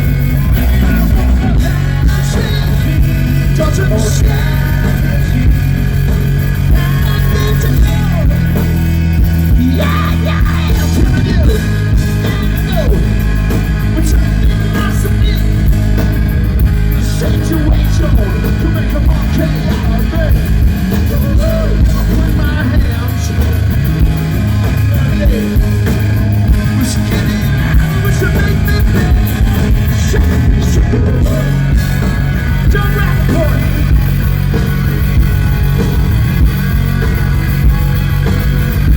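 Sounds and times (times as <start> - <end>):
bass guitar: 0.0 - 38.9
distorted electric guitar: 0.0 - 38.9
drums: 0.0 - 38.9.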